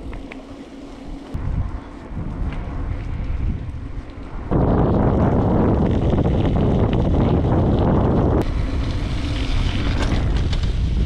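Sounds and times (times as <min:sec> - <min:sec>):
wind buffeting microphone: 0:01.0 - 0:11.0.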